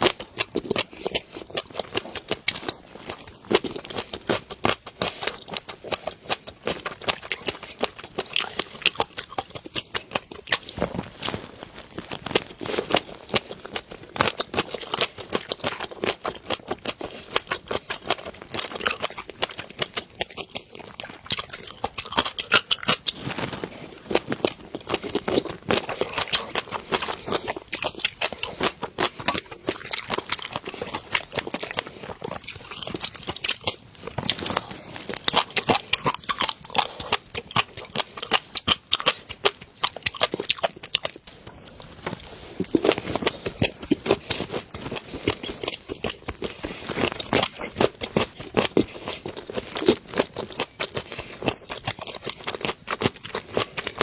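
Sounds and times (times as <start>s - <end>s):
wet chewing and lip smacks: 0.0s - 11.1s, 12.1s - 54.0s.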